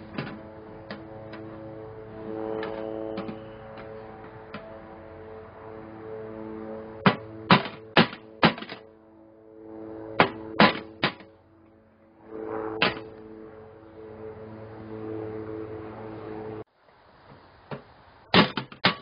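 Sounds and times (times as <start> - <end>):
background music: 0.0 - 16.7.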